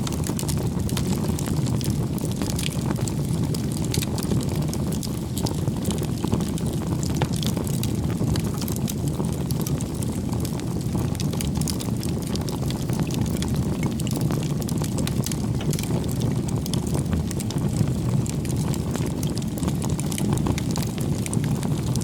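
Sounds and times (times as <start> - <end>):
campfire flames rumbling: 0.0 - 22.0
wood crackling and popping: 0.0 - 22.0.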